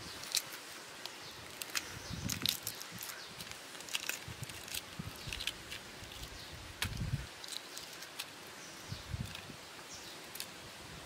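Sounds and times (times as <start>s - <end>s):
eggshell crackling as peeled: 0.1s - 9.6s, 10.2s - 10.6s.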